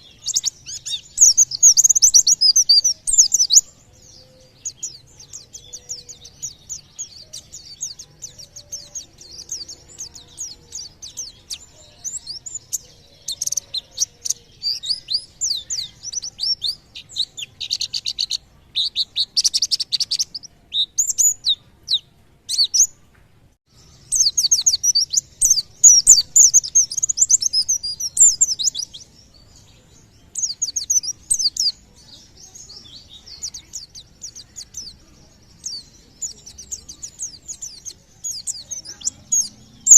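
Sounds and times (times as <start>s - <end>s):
bird rapid high chirping: 0.0s - 23.0s, 23.7s - 39.9s.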